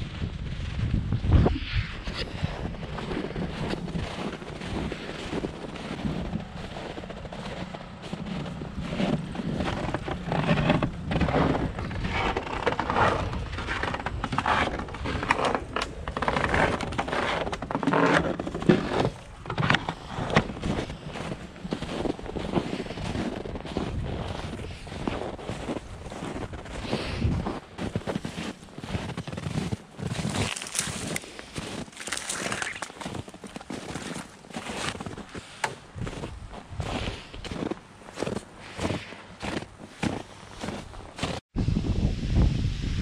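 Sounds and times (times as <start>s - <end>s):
footsteps crunching in snow: 0.0s - 41.4s.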